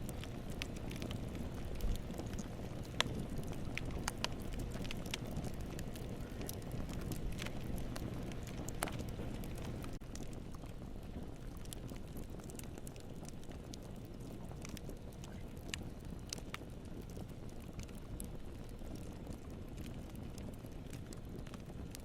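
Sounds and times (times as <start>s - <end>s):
burning wood crackling: 0.0s - 22.0s
low rumble of flames: 0.0s - 22.0s.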